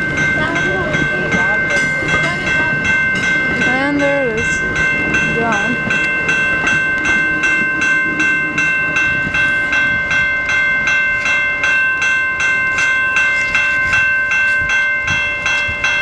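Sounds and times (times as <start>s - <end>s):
level crossing bell ringing: 0.0s - 16.0s
low train rumble: 0.0s - 16.0s.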